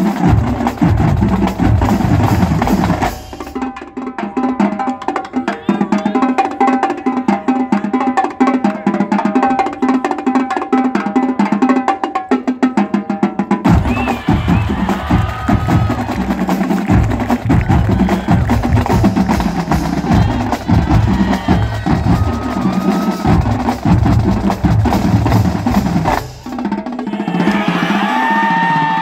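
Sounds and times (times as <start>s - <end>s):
marching drum line playing: 0.0s - 29.0s.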